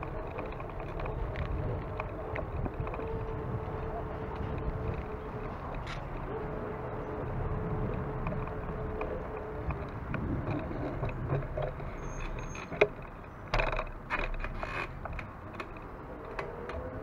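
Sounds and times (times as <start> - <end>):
wheels rolling over paving stones: 0.0 - 17.0.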